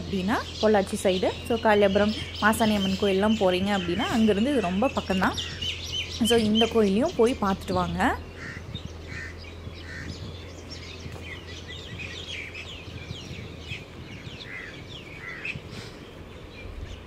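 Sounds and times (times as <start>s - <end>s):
faint low rumble: 0.0s - 17.0s
small birds chirping: 0.0s - 17.0s.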